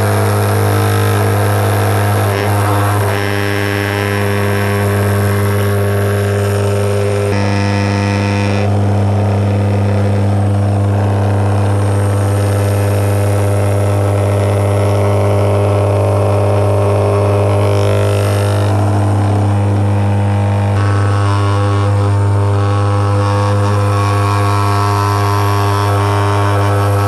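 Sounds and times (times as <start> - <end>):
electric sifter humming: 0.0 - 27.0.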